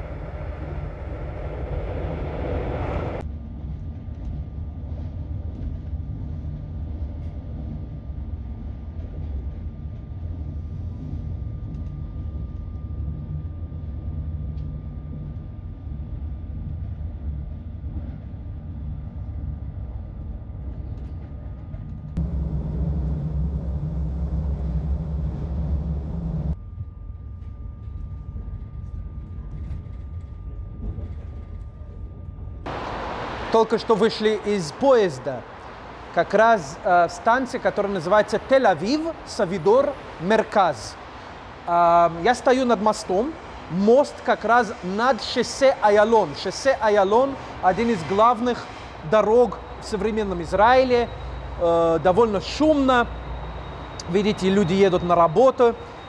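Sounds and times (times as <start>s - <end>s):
faint steady whine: 0.0s - 56.0s
train rumbling inside carriage: 0.0s - 56.0s.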